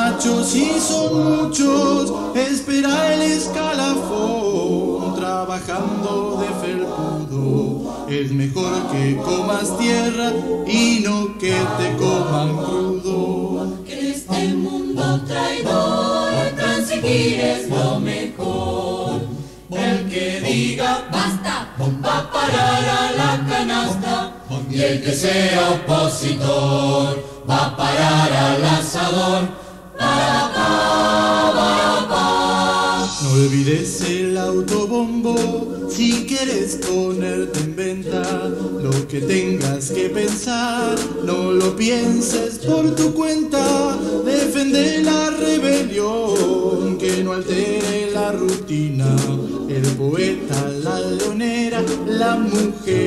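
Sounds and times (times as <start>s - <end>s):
choir singing a cappella: 0.0s - 53.0s.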